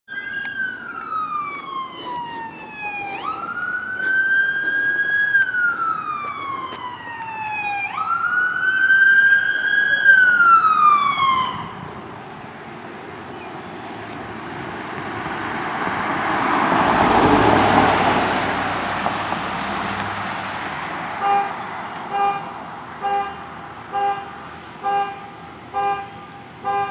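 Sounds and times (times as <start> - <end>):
emergency vehicle siren wailing: 0.1 - 12.3, 14.1 - 26.9
vehicle engine and tyre noise: 0.1 - 26.9.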